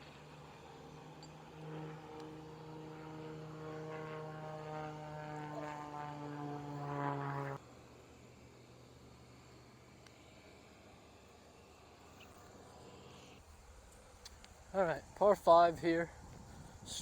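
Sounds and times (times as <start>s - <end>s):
propeller airplane flying by: 0.0s - 17.0s.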